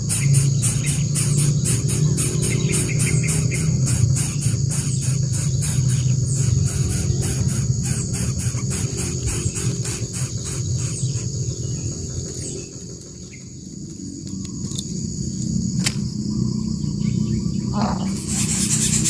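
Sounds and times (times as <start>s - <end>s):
bird chicks raspy calls: 0.0s - 19.0s
high insect trill: 0.0s - 19.0s.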